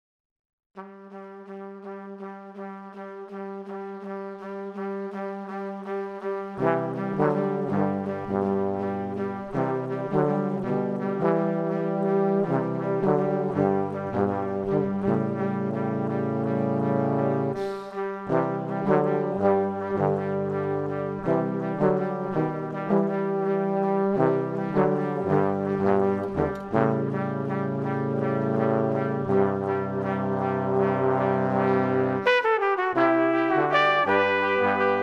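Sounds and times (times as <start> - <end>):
instrumental background music: 0.8 - 35.0.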